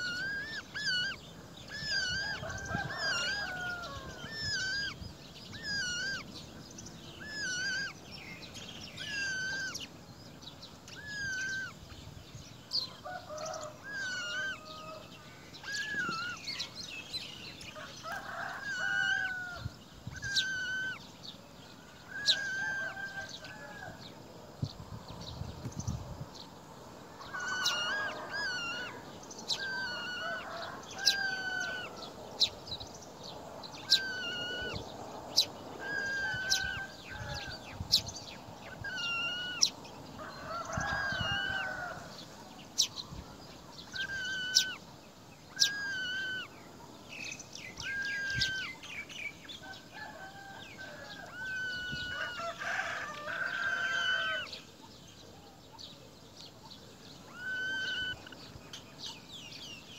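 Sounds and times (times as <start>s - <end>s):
bird calls: 0.0s - 24.0s, 27.1s - 59.9s.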